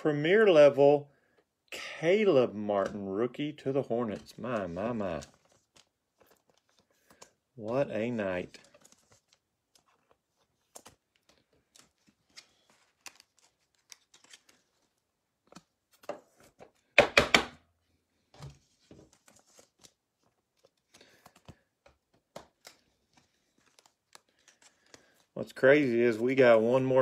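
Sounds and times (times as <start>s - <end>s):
trading cards clicking and rustling: 2.5s - 17.5s, 18.6s - 27.0s.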